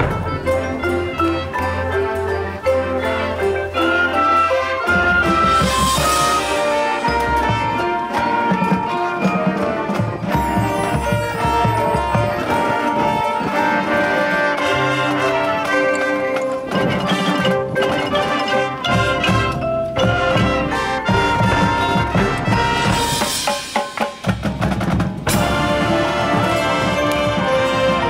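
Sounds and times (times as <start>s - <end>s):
percussion ensemble playing: 0.0s - 28.0s.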